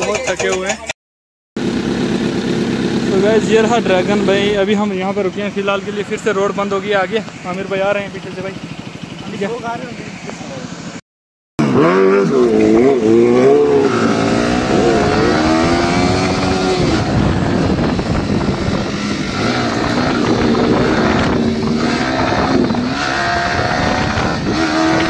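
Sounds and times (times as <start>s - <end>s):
motorcycle engine revving: 1.6s - 11.0s, 11.6s - 25.0s
road and wind noise: 1.6s - 11.0s, 11.6s - 25.0s.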